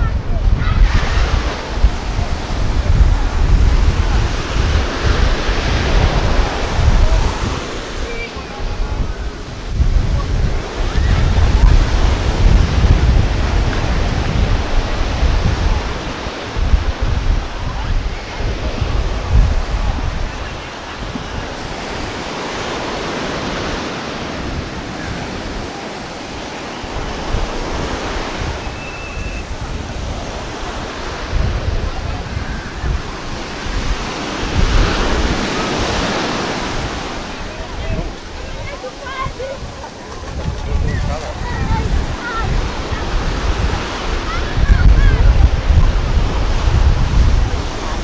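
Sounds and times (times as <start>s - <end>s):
ocean surf breaking on beach: 0.0s - 48.0s
wind buffeting microphone: 0.0s - 48.0s.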